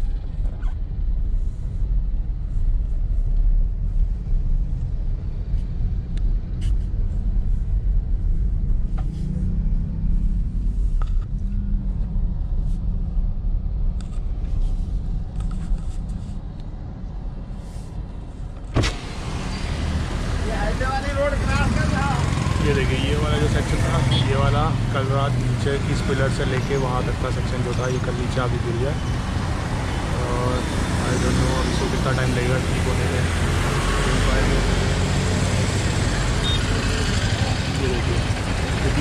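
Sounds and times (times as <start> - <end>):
engine and tyre rumble: 0.0 - 39.0.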